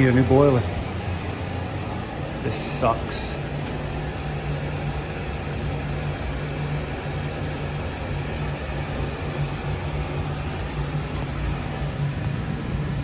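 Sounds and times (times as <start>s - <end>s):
machinery low hum: 0.0s - 13.0s.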